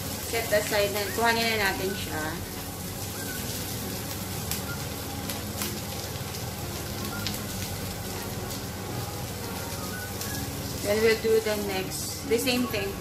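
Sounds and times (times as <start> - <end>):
shrimp sizzling in oil: 0.0 - 13.0.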